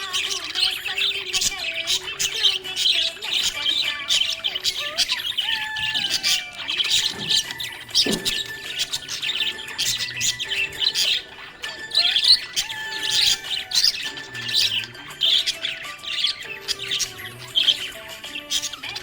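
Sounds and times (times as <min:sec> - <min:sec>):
background music with held notes: 0:00.0 - 0:19.0
budgerigar chirping and warbling: 0:00.0 - 0:19.0.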